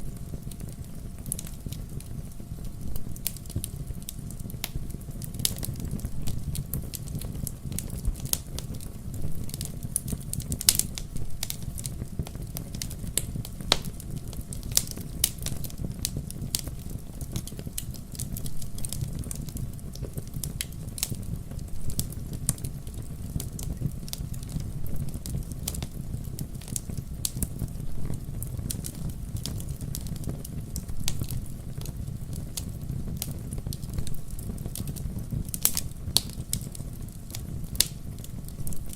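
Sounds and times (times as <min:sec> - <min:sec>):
low rumble of flames: 0:00.0 - 0:38.9
logs crackling and popping: 0:00.1 - 0:38.9.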